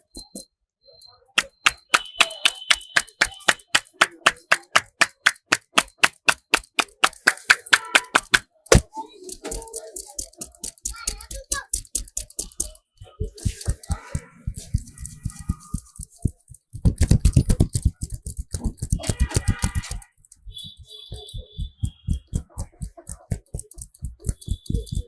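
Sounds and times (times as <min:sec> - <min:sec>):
hands slapping a head: 0:01.4 - 0:25.0.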